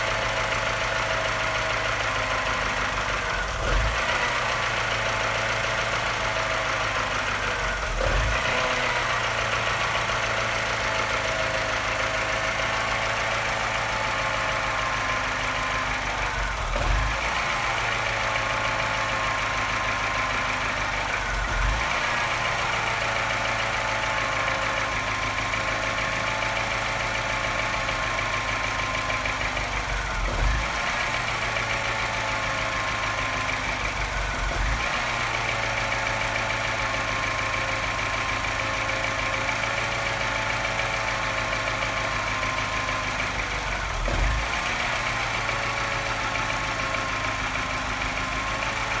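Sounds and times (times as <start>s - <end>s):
car engine idling with tapping: 0.0s - 49.0s.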